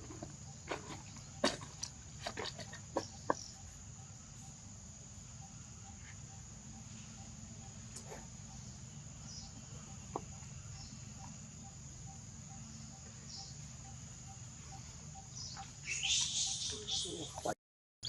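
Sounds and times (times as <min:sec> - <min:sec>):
insects droning: 0:00.0 - 0:17.6.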